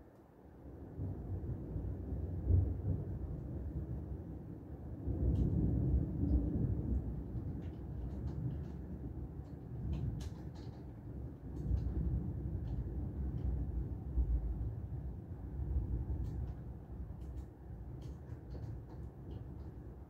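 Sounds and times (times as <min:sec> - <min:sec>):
rainy city rumble: 0:00.0 - 0:20.0.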